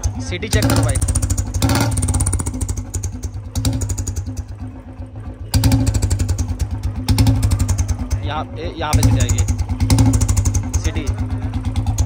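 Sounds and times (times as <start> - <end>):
motorcycle engine idling with whistle: 0.0 - 8.2, 8.9 - 12.0.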